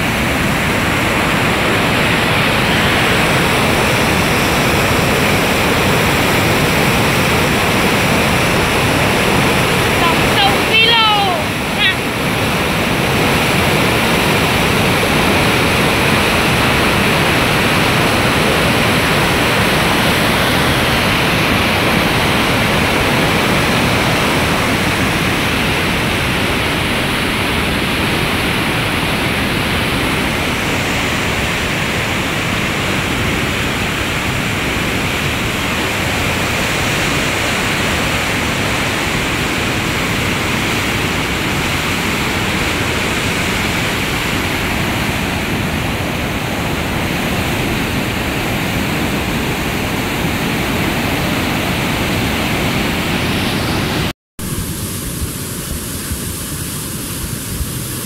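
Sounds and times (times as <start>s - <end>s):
flood water rushing: 0.0s - 58.0s.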